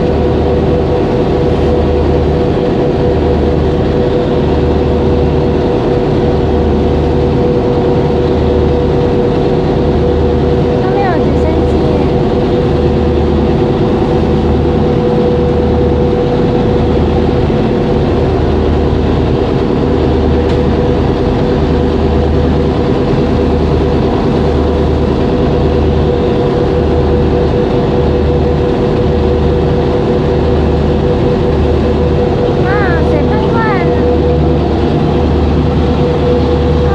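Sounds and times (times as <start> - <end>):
boat engine throbbing hum: 0.0 - 36.9.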